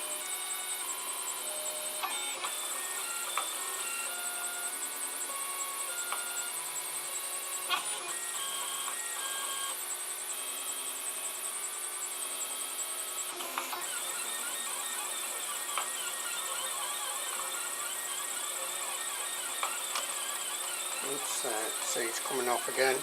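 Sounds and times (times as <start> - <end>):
stepper motors whining: 0.0 - 23.0.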